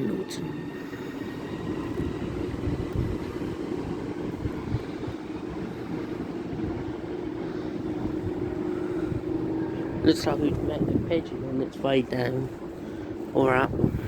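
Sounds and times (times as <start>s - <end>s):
electric train running past: 0.0s - 14.0s.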